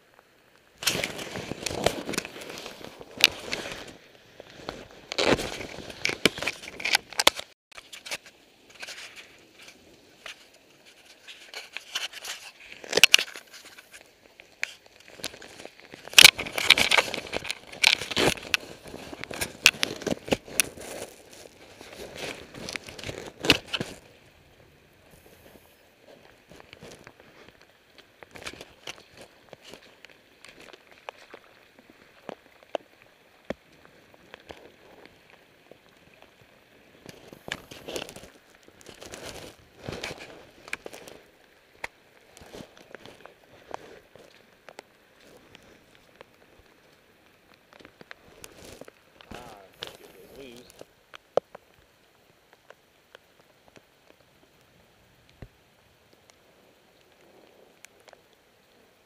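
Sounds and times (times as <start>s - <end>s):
crackling and rustling: 0.0s - 59.0s.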